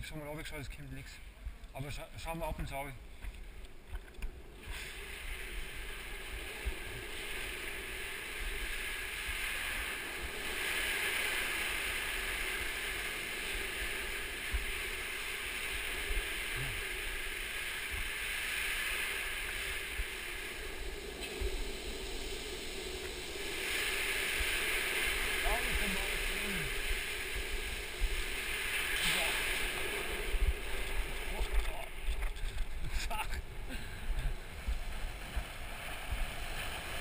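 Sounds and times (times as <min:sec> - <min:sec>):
wind: 0:00.0 - 0:37.0
wheels rolling on asphalt: 0:01.0 - 0:37.0.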